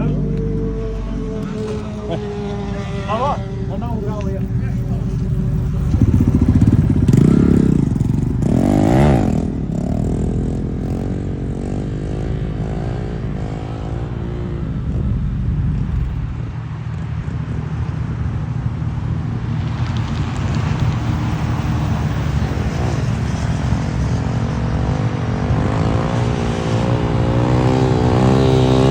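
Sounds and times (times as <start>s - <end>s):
vehicle engine revving: 0.0s - 28.9s.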